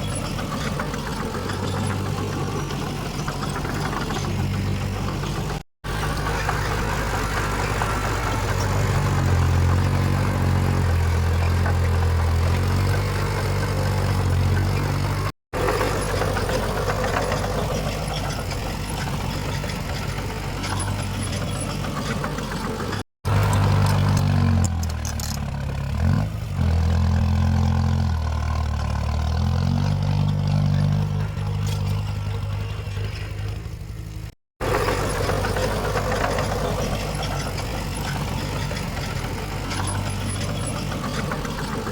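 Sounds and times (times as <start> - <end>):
heavy diesel engines revving: 0.0 - 41.9.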